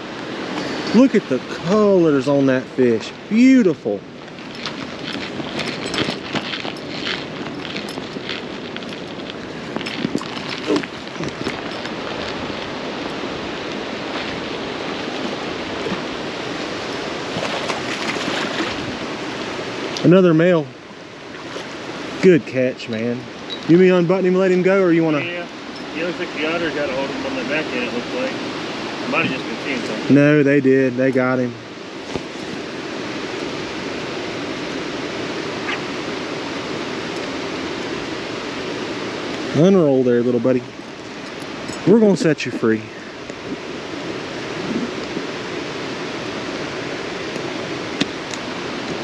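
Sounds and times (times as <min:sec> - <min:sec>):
creek water flowing: 0:00.0 - 0:49.0.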